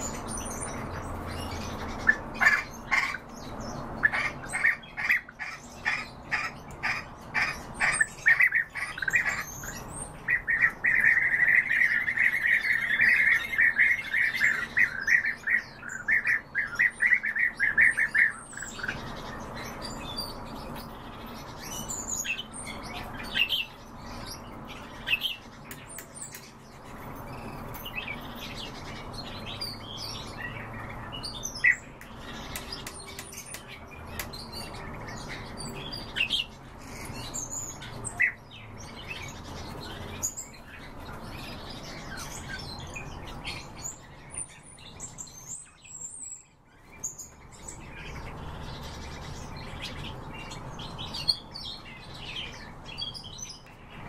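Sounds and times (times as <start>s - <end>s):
birds rolling calls: 0.0s - 54.0s
fast overlapping bird chattering: 0.0s - 54.0s
high bird chirps: 0.0s - 54.0s.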